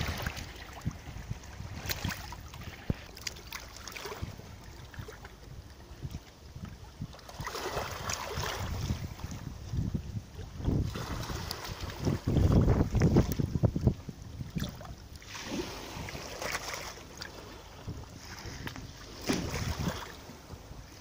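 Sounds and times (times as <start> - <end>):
small waves lapping on shore: 0.0 - 21.0
wind rumble on microphone: 0.0 - 21.0.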